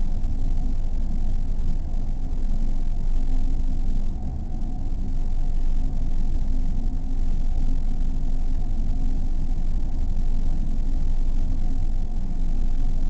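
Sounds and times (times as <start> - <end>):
low rumbling ambient drone: 0.0 - 13.0.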